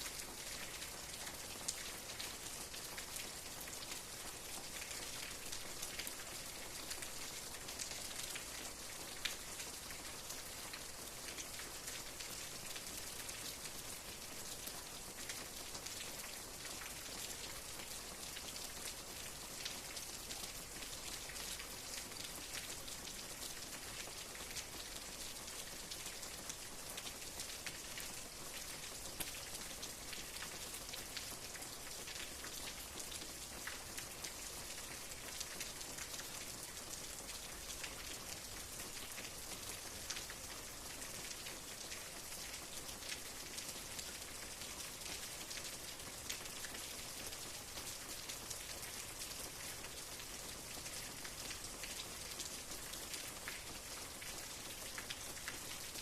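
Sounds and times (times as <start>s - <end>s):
raindrops ticking on a surface: 0.0s - 56.0s.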